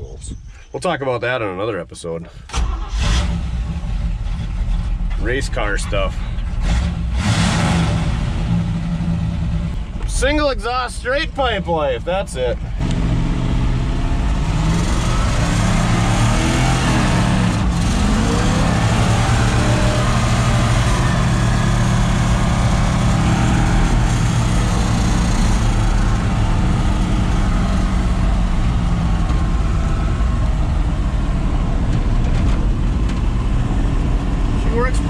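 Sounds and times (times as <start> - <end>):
truck engine driving: 2.4 - 35.0.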